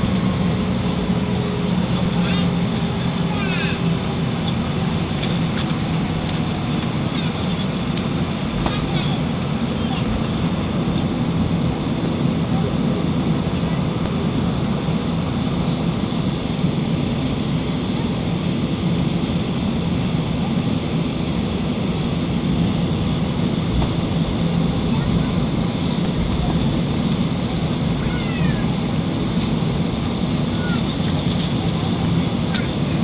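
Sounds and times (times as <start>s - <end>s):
jet engines heard from cabin: 0.0s - 33.0s.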